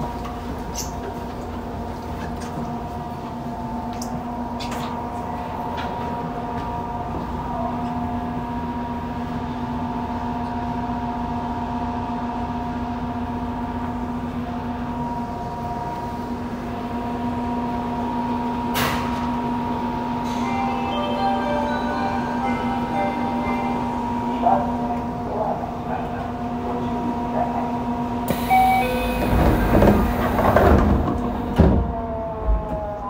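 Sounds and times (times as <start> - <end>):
train electrical hum: 0.0 - 33.0.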